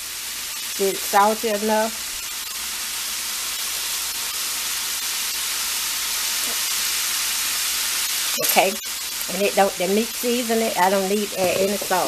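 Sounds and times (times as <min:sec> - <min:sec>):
pot boiling with bubbling hiss: 0:00.0 - 0:12.0.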